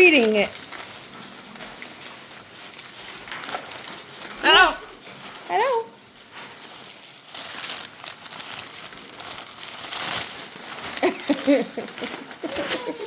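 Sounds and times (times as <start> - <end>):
newspaper crinkling and rustling: 0.0 - 13.0.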